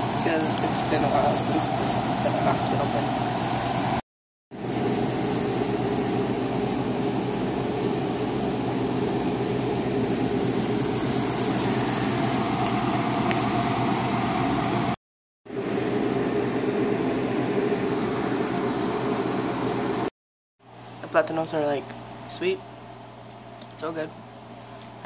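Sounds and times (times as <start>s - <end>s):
mechanical hum with low drone: 0.0s - 4.0s, 4.6s - 20.1s, 20.7s - 25.0s.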